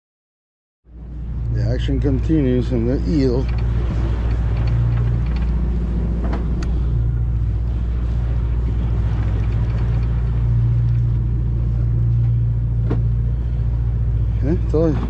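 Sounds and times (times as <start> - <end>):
boat engine droning: 0.9 - 15.0
water washing around hull: 0.9 - 15.0.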